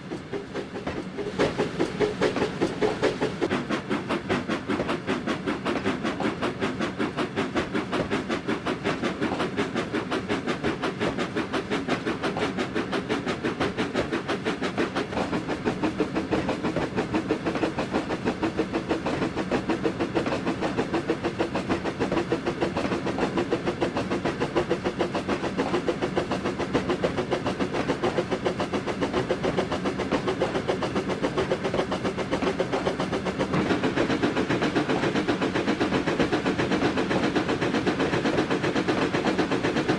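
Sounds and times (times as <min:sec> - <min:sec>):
steam train rhythmic beat: 0:00.0 - 0:39.9.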